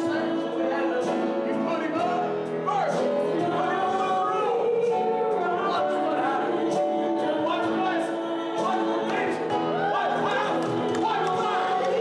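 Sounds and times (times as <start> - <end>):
group singing a hymn: 0.0 - 12.0.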